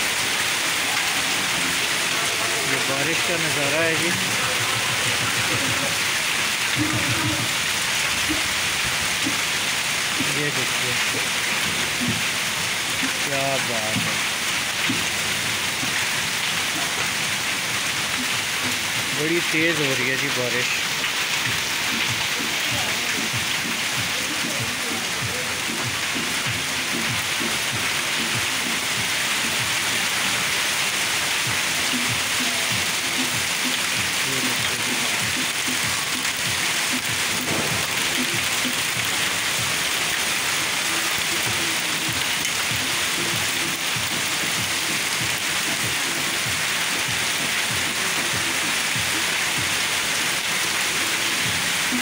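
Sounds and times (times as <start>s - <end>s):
heavy rain on roof and ground: 0.0s - 52.0s.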